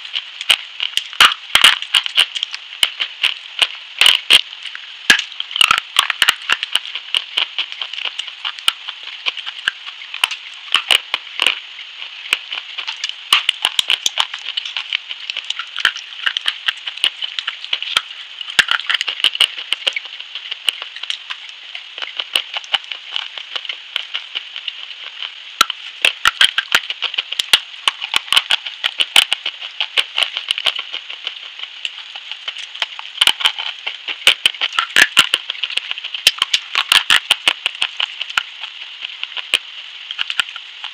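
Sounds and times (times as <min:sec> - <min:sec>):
crunching of a brittle stick: 0:00.0 - 0:40.9
steady hiss: 0:00.0 - 0:40.9.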